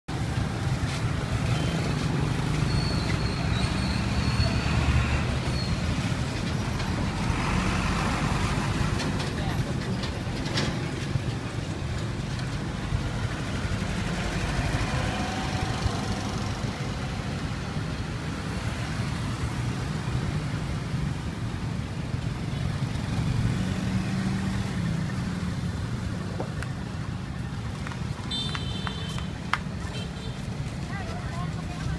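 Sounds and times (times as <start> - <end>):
street traffic rumble: 0.1 - 31.9
vehicle engine: 0.1 - 31.9.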